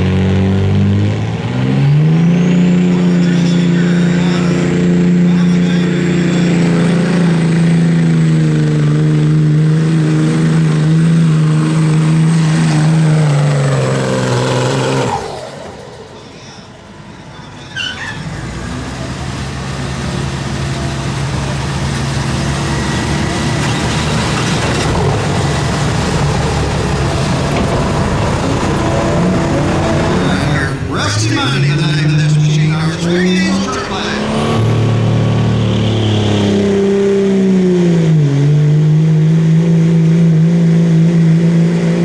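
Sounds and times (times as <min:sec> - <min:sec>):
pulling engine at high revs: 0:00.0 - 0:42.0
pulling engine running steadily: 0:00.0 - 0:42.0.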